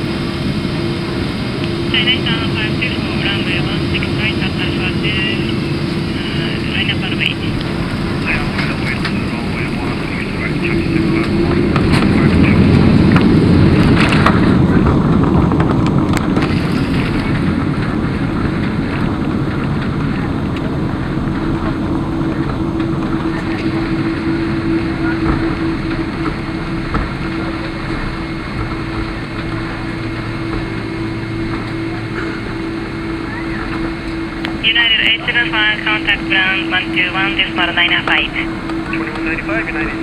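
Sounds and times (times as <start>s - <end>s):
jet engines and wheels rushing: 0.0s - 40.0s
steady hum: 0.0s - 40.0s.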